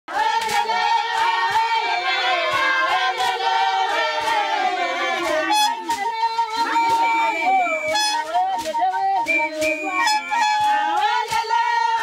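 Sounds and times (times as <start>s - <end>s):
short percussive thumps: 0.1s - 12.0s
women singing together: 0.1s - 12.0s.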